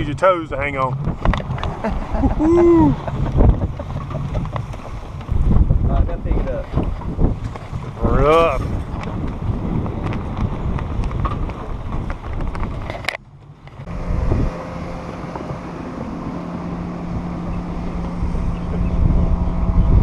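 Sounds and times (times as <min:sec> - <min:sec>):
boat motors humming: 0:00.0 - 0:20.0
wind buffeting microphone: 0:00.0 - 0:20.0.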